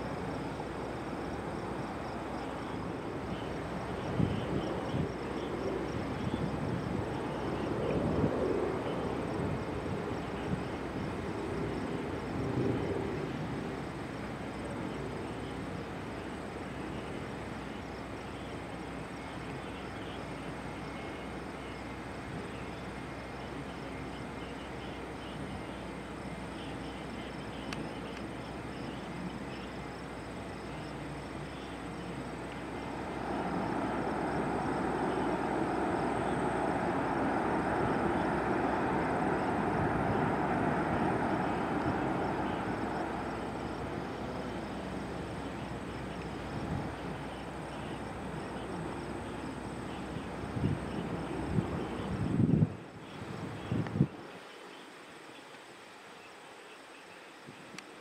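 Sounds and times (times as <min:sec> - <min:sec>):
jet airliner engine rumble: 0:00.0 - 0:54.4
insects chirring: 0:00.0 - 0:58.0.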